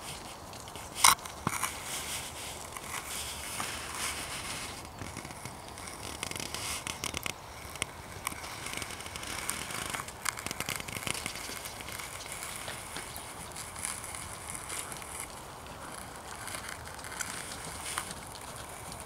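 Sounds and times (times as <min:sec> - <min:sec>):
horse hooves on granular ground: 0:00.0 - 0:19.0.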